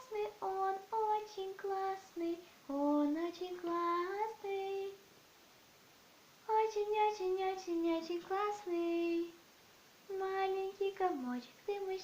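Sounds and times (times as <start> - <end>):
girl singing unaccompanied: 0.0 - 5.1, 6.4 - 12.0.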